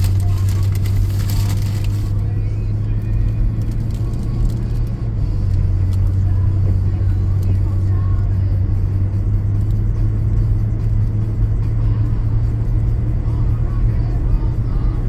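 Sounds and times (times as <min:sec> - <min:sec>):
car driving on wet road: 0:00.0 - 0:15.0.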